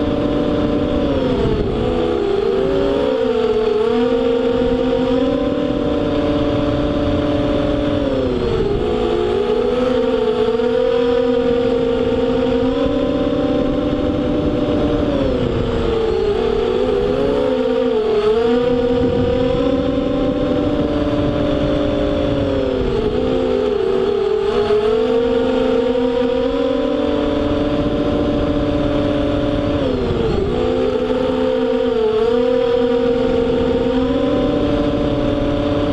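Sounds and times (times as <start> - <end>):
quadcopter motors whining: 0.0 - 35.9.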